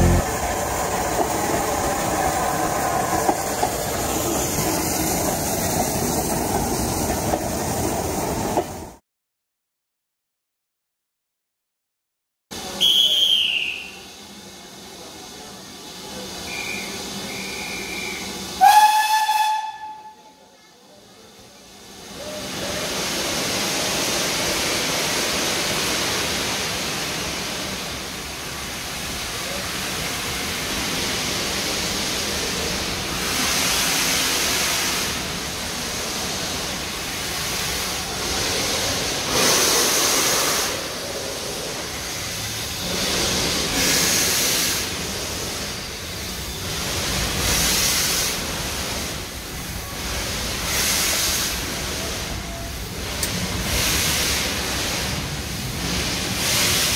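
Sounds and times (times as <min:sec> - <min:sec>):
steam locomotive hissing: 0:00.0 - 0:08.8, 0:12.6 - 0:56.9.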